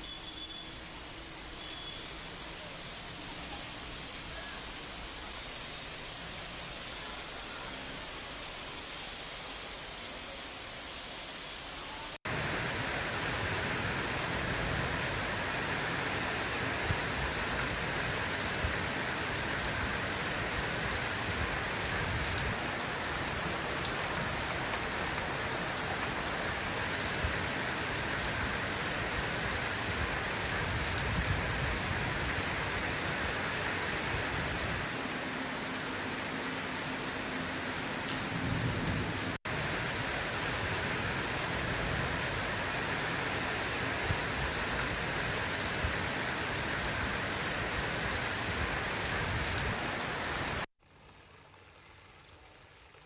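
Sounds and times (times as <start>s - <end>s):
heavy rain pouring: 0.0s - 52.2s.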